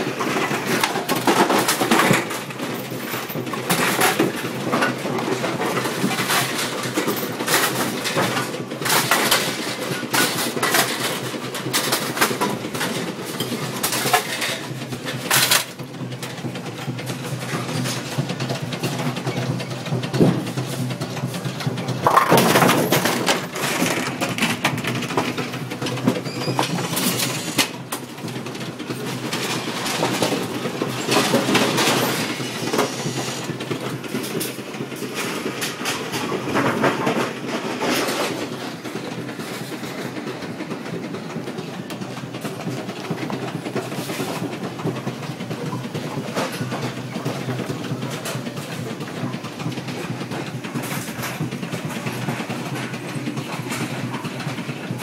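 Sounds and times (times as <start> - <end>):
machine clattering and rattling: 0.0 - 55.0.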